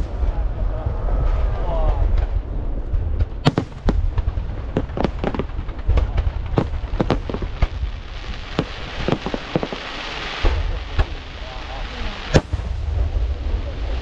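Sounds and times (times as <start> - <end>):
low rumble: 0.0 - 9.5, 10.5 - 14.0
fireworks bangs: 0.0 - 14.0.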